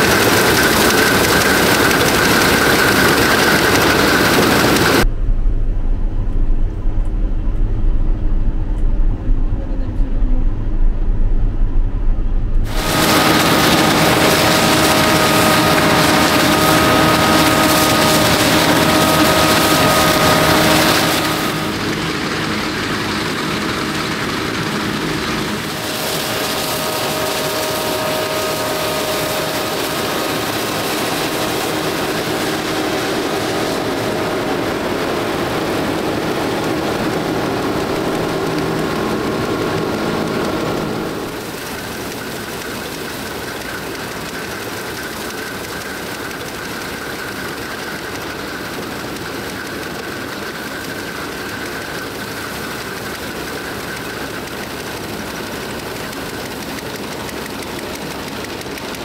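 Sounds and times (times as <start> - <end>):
combine harvester droning and whining: 0.0 - 59.0.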